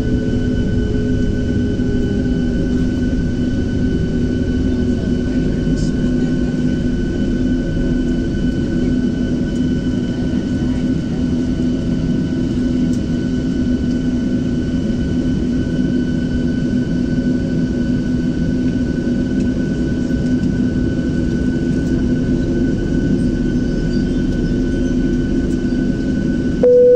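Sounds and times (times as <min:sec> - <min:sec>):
jet engines idling: 0:00.0 - 0:26.9.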